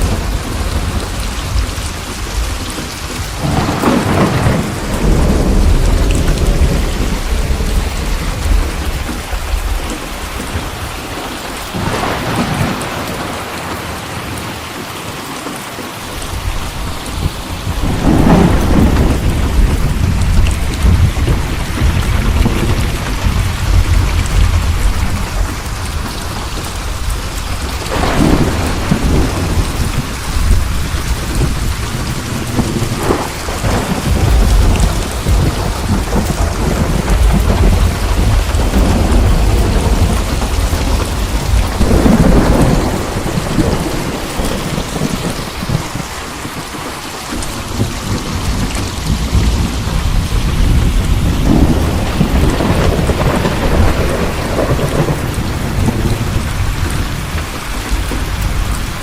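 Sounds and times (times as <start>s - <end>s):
rolling thunder: 0.0s - 14.5s, 16.1s - 59.0s
heavy rain falling: 0.0s - 59.0s.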